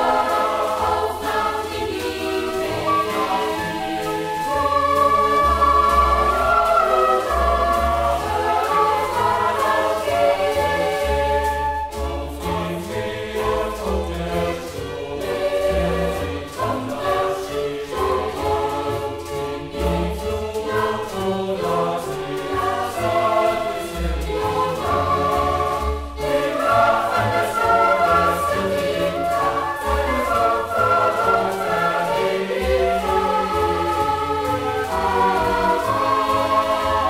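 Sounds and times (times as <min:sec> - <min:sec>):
choir singing: 0:00.0 - 0:37.0.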